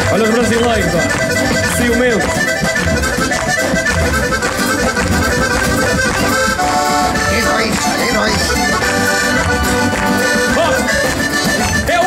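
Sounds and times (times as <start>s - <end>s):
button accordion melody: 0.0s - 12.0s
folk band playing: 0.0s - 12.0s.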